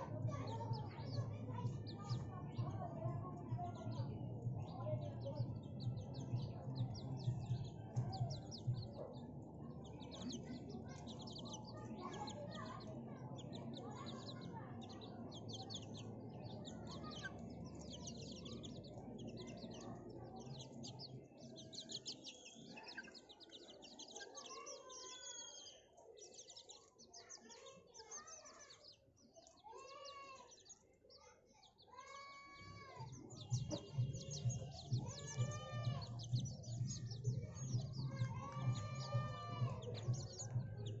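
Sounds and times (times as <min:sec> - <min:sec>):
chicks peeping and chirping: 0:00.0 - 0:41.0.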